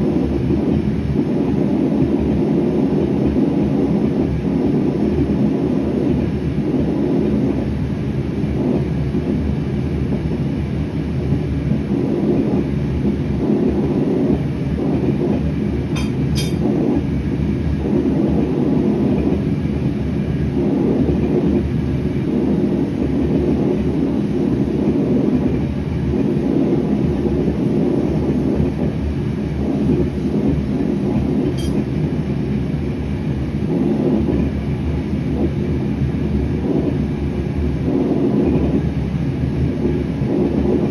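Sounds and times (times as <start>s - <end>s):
gas burner roaring: 0.0s - 40.9s.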